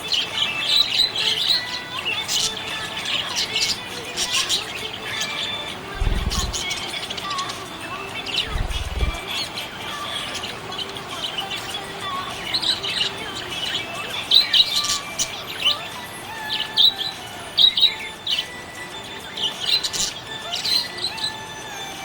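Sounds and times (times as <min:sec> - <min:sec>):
parrots chirping and chattering: 0:00.0 - 0:22.0.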